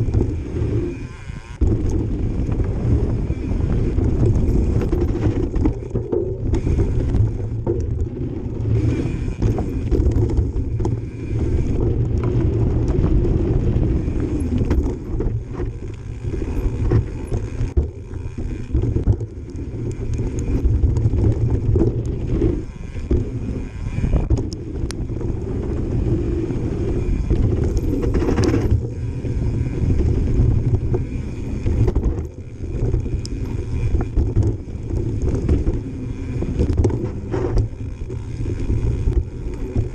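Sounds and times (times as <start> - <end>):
bike tyres rumbling over dirt: 0.0 - 39.9
freewheel ratchet buzzing: 0.0 - 39.9
wind on microphone: 0.0 - 39.9.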